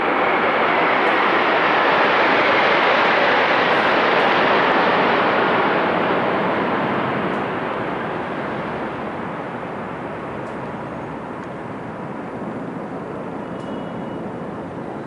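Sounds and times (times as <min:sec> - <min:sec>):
military aircraft flying overhead: 0:00.0 - 0:15.0.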